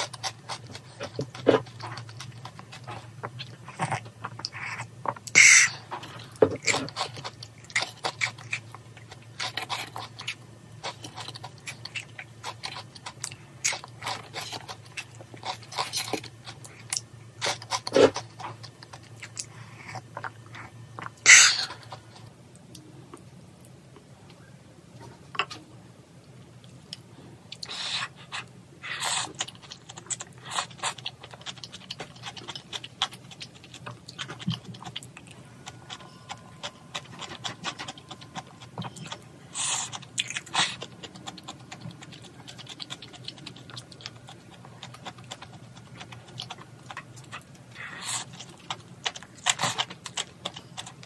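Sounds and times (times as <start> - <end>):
chewing: 0.0 - 23.8, 26.6 - 51.0.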